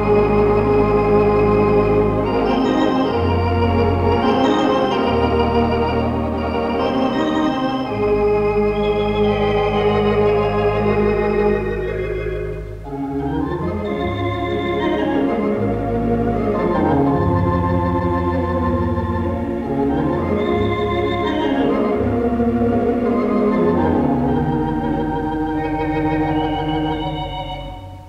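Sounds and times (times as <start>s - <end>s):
theatre organ playing chords: 0.0s - 28.0s.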